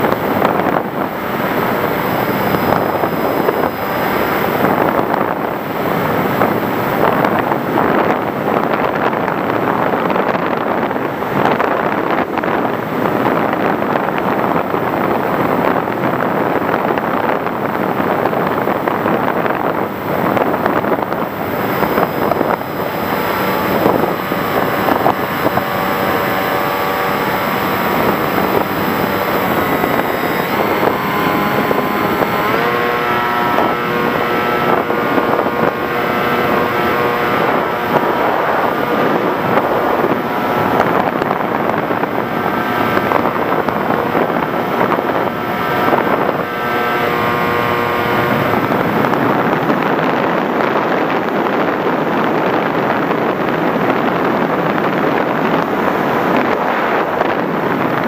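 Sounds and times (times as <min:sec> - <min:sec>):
electric motor and propeller whining: 0:00.0 - 0:58.0
wind rushing on microphone: 0:00.0 - 0:58.0.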